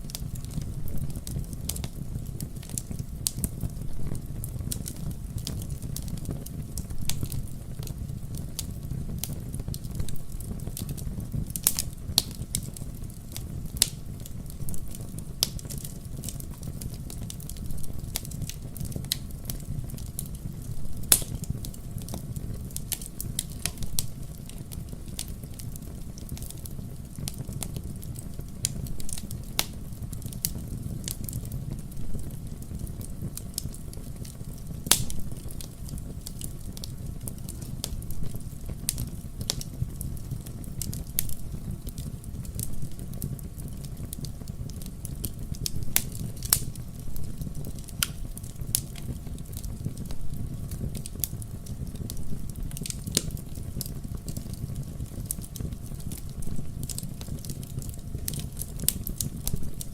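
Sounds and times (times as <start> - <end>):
fire crackling and popping: 0.0 - 59.9
wood fire rumbling: 0.0 - 59.9.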